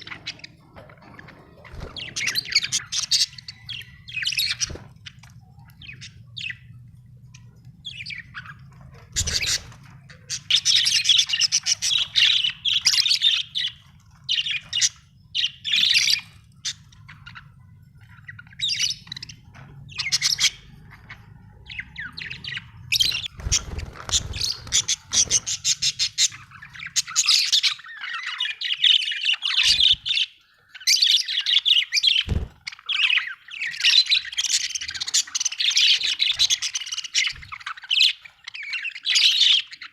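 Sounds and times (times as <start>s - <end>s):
budgerigars chirping and warbling: 0.0s - 39.9s.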